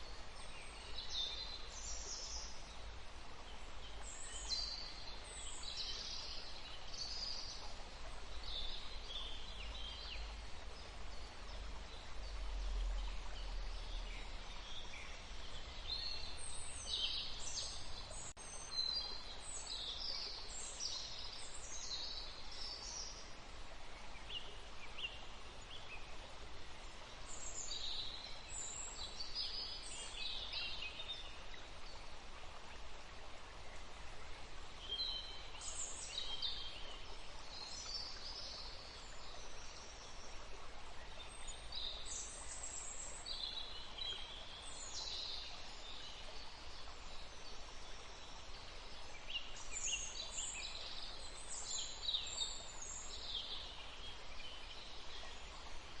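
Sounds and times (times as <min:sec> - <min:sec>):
songbirds chirping: 0:00.0 - 0:56.0
steady background hiss: 0:00.0 - 0:56.0.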